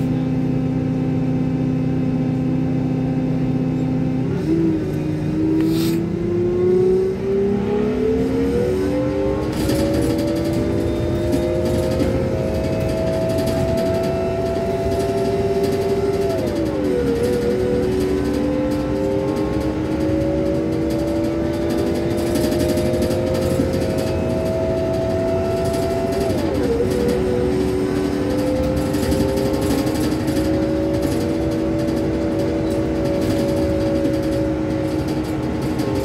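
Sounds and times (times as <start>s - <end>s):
road noise: 0.0s - 36.0s
vehicle engine accelerating: 0.0s - 36.0s.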